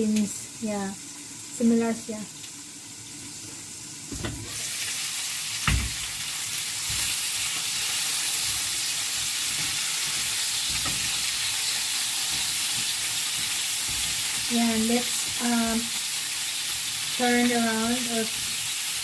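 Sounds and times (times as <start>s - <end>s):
chicken wings sizzling in a pan: 0.0s - 19.0s.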